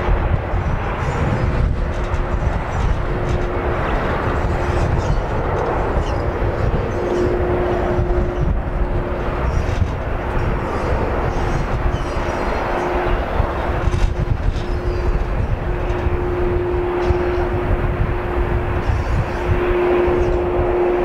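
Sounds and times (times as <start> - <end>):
jet engines roaring: 0.0 - 21.0
wind buffeting microphone: 0.0 - 21.0.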